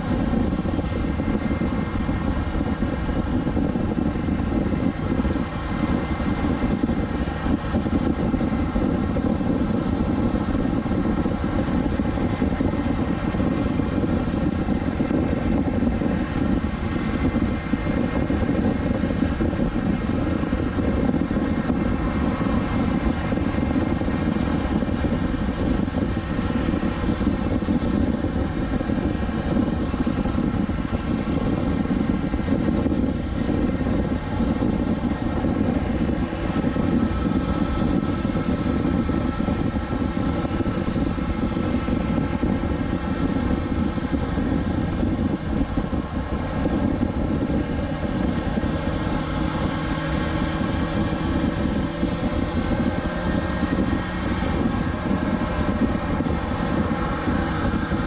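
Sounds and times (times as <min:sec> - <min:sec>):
motorcycle engine cruising: 0:00.0 - 0:58.0
steady rushing noise: 0:00.0 - 0:58.0.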